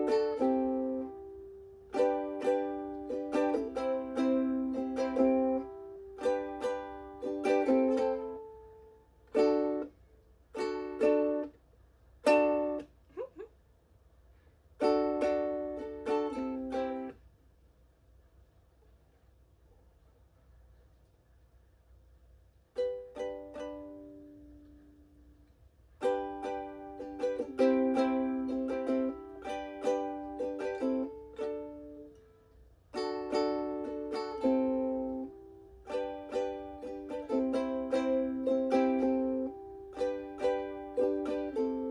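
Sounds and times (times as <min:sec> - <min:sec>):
ukulele strumming chords: 0:00.0 - 0:11.6, 0:12.2 - 0:13.4, 0:14.8 - 0:17.2, 0:22.7 - 0:25.3, 0:26.0 - 0:41.9.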